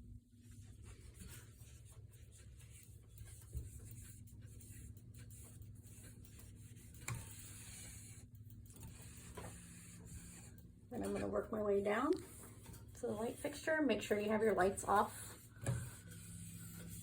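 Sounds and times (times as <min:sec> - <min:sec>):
cloth wiping fan blades: 0:00.0 - 0:17.0.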